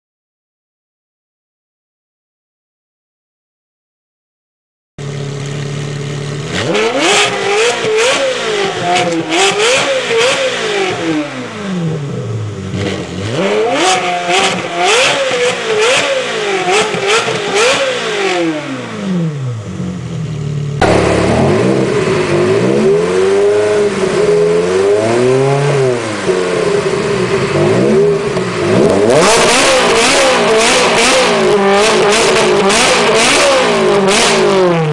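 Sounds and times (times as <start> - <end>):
car engine revving: 5.0 - 34.9
different car engine: 5.0 - 34.9.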